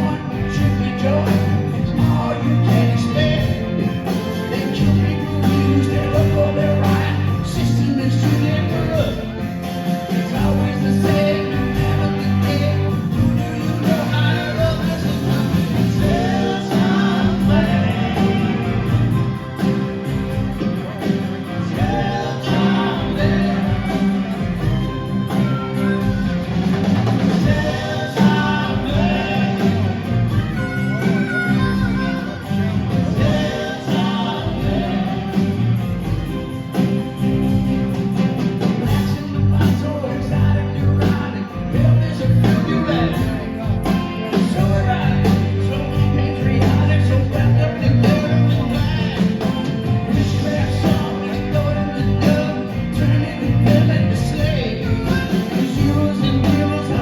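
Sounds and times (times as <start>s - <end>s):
person singing: 0.0s - 26.5s, 27.2s - 35.8s, 38.6s - 57.0s
live rock band playing: 0.0s - 57.0s.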